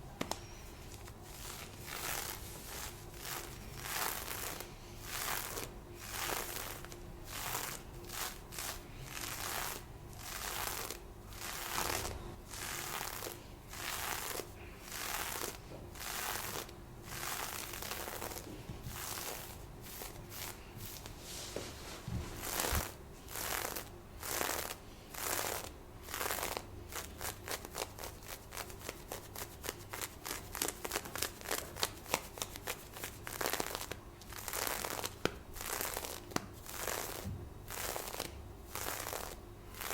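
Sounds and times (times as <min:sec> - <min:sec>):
scratching on fishnet stockings: 0:00.2 - 0:39.9.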